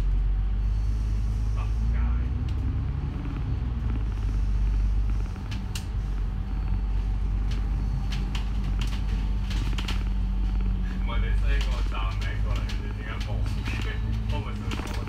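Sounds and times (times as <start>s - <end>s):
bus engine running: 0.0s - 15.0s
bus interior creaks and rattles: 0.0s - 15.0s.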